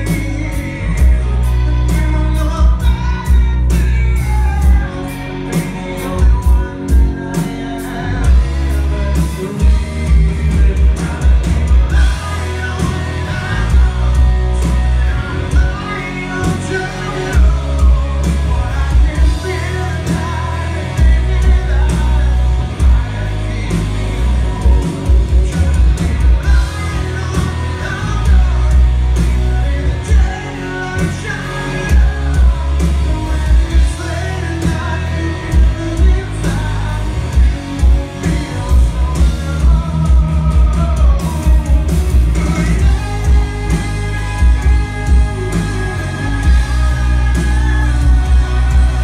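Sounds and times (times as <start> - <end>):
live rock band playing: 0.0 - 49.0
person singing lead vocal: 0.0 - 49.0.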